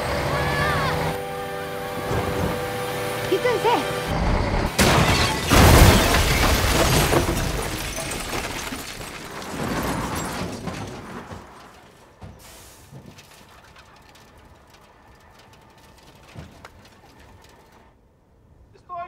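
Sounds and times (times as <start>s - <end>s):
truck crashing and smashing: 0.0s - 18.0s.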